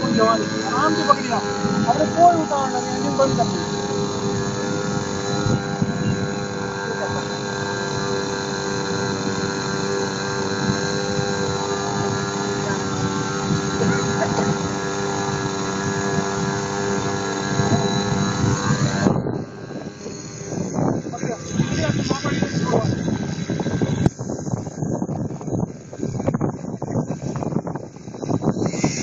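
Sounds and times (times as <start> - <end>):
model plane motor running: 0.0 - 29.0.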